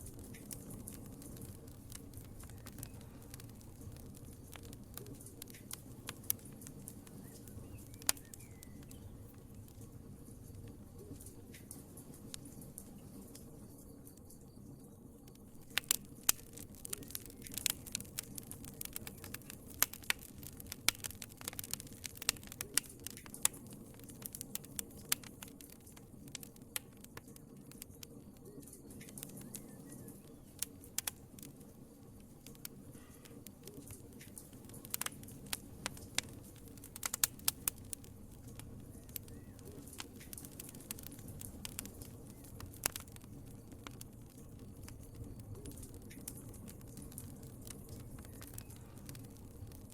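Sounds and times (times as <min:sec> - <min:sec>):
low steady fire hiss: 0:00.0 - 0:49.9
wood fire pops and snaps: 0:00.0 - 0:49.9.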